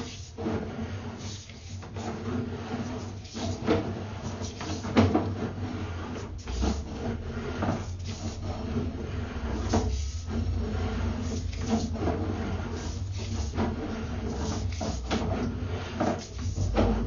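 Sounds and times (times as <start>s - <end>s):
cable knocking and scraping in pipe: 0.0s - 17.0s
steady low hum: 0.0s - 17.0s.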